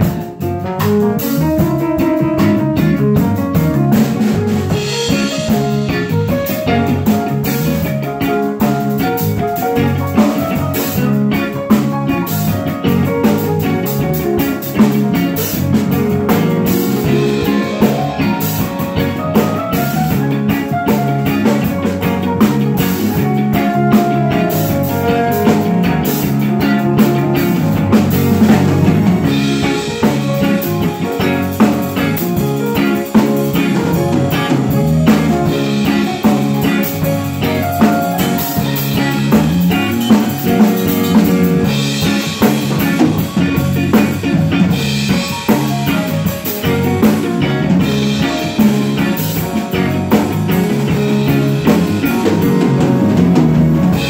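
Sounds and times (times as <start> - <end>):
drum kit: 0.0 - 54.0
electric bass: 0.0 - 54.0
live band playing funk groove: 0.0 - 54.0.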